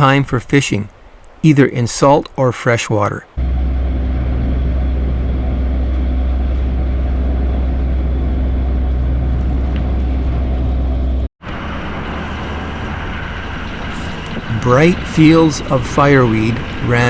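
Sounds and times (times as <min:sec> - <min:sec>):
vehicle engine and road rumble: 0:03.3 - 0:17.0.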